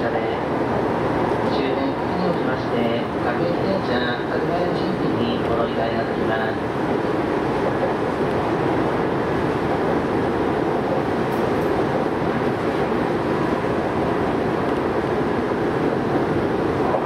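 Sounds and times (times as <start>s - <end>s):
train rumble inside passenger car: 0.0s - 17.0s.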